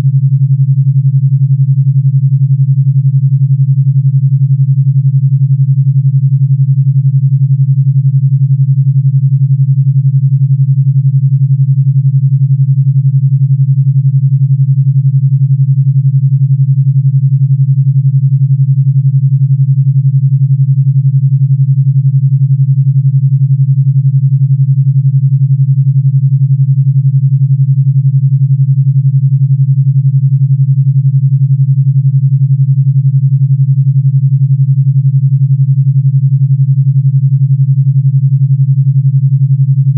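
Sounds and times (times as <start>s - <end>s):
low throbbing electronic tone: 0.0s - 39.9s.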